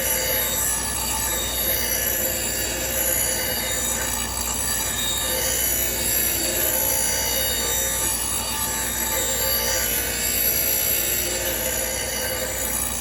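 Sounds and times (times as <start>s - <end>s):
power grinder grinding metal blade: 0.0s - 13.0s.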